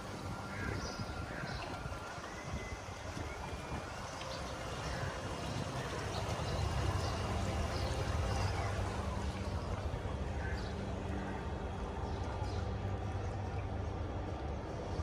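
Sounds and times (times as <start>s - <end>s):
boat motor humming: 0.0s - 15.0s
water washing along hull: 0.0s - 15.0s.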